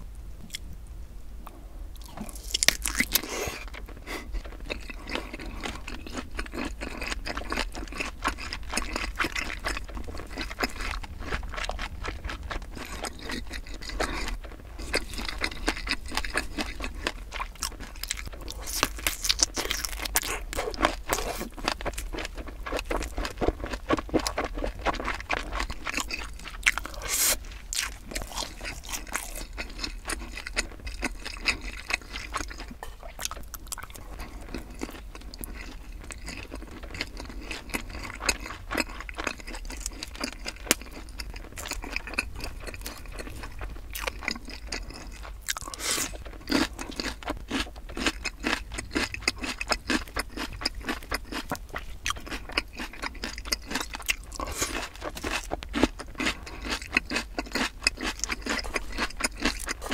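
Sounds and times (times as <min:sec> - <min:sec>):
crunchy wet chewing: 0:01.4 - 0:59.9
biting into sausage: 0:02.0 - 0:59.9.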